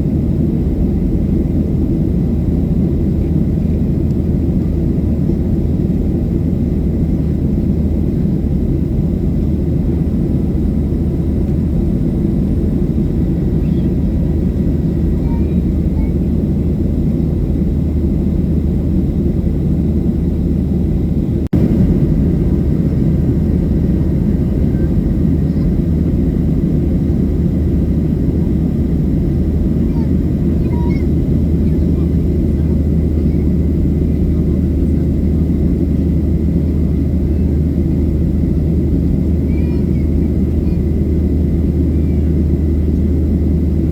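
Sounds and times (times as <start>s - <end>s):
aircraft cabin engine rumble: 0.0s - 43.9s.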